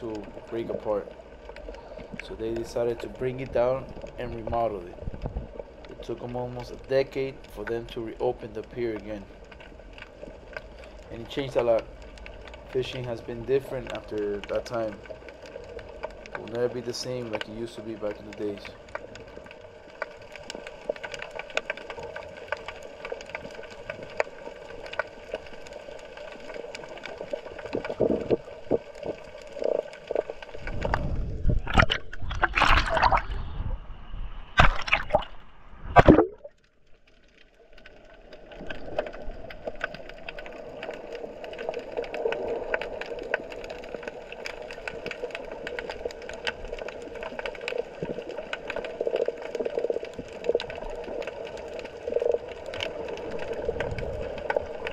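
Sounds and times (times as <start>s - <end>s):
small crackling clicks: 0.0s - 33.2s, 36.4s - 54.9s
underwater hum: 0.0s - 54.9s.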